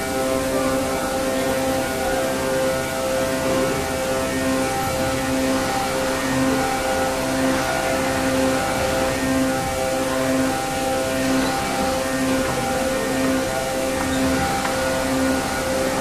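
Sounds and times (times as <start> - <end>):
injection moulding machine drone: 0.0 - 16.0
machine whine: 0.0 - 16.0.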